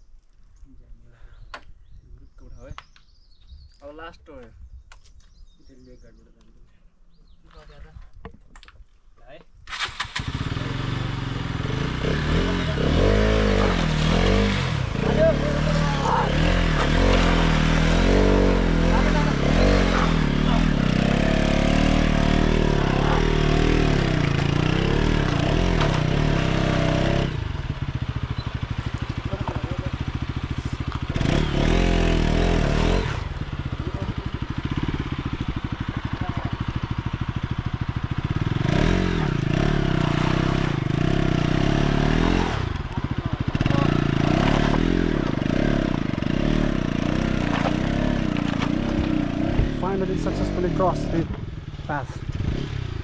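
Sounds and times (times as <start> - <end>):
motorcycle engine revving: 9.7 - 53.0.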